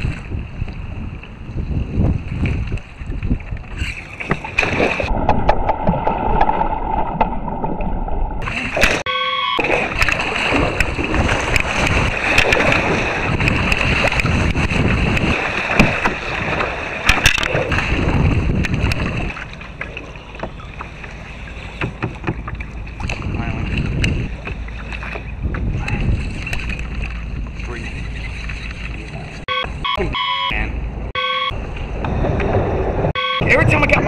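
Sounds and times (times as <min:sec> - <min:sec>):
water splashing along kayak: 0:00.0 - 0:30.5
paddle churning water: 0:00.0 - 0:34.0.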